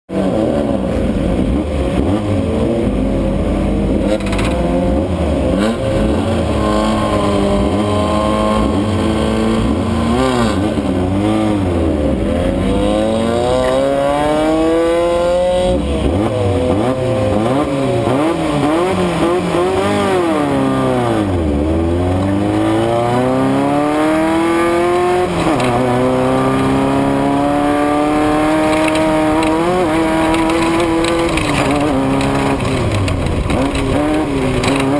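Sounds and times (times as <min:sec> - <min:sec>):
race car engine accelerating: 0:00.2 - 0:34.9.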